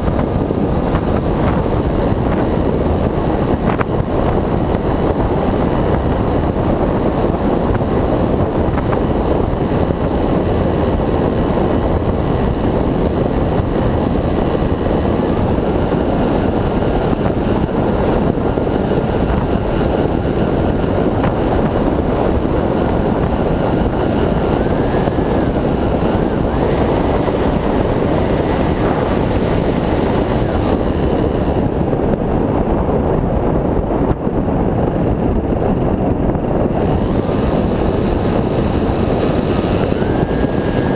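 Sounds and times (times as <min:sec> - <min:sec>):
motor and propeller whine: 0:00.0 - 0:40.9
wind rush over camera: 0:00.0 - 0:40.9.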